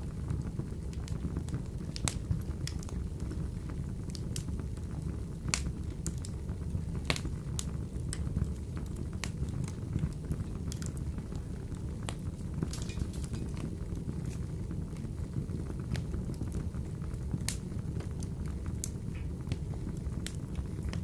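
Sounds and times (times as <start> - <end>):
stove flames rumbling: 0.0 - 21.0
logs crackling and popping: 0.3 - 21.0.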